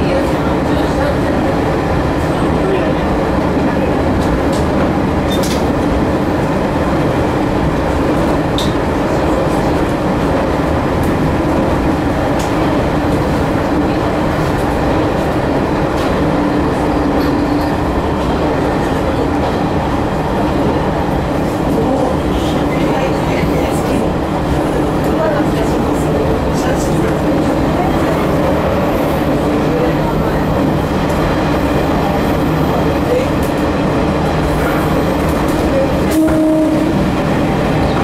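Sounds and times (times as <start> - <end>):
railcar engine and wheels drone: 0.0 - 38.0.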